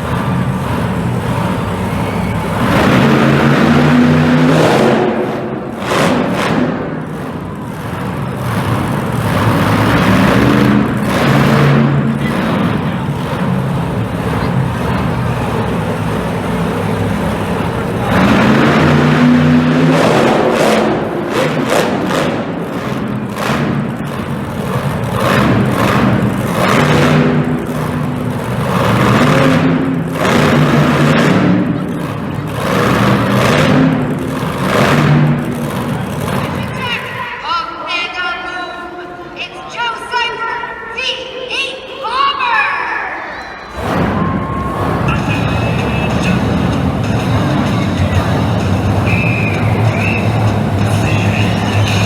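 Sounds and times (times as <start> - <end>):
monster truck engine running: 0.0 - 37.5, 43.7 - 52.0.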